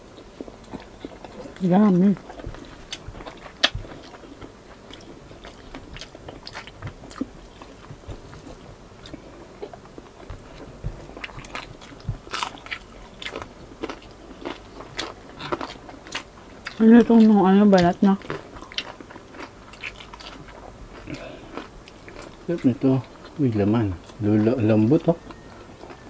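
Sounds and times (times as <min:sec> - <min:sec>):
mouth chewing crispy pork: 0:00.0 - 0:26.0.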